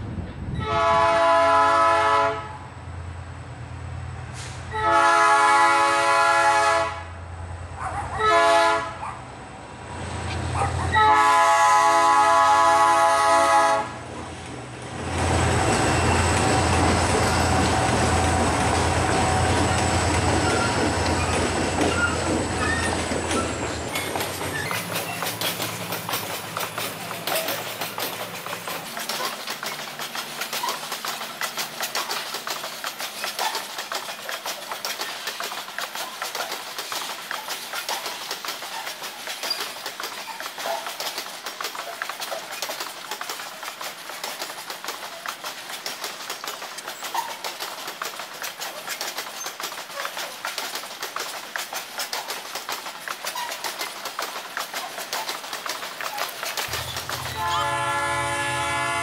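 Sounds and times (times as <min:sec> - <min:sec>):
diesel locomotive hum: 0:00.0 - 0:59.0
train wheels clicking over rails: 0:09.7 - 0:59.0.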